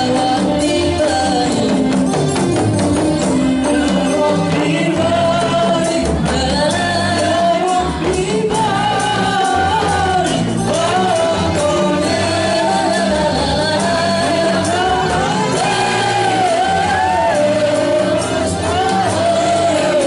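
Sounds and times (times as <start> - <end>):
frame drums: 0.0 - 20.0
jingling tambourine: 0.0 - 20.0
voices singing a melody: 3.1 - 20.0.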